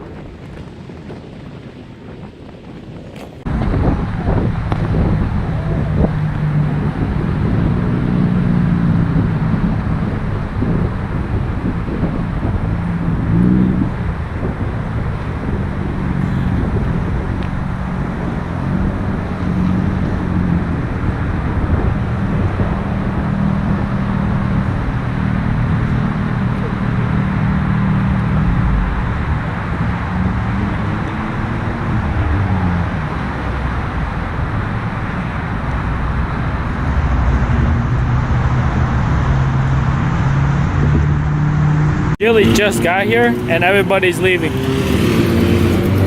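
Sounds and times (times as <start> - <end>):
car engine running: 3.5 - 46.0.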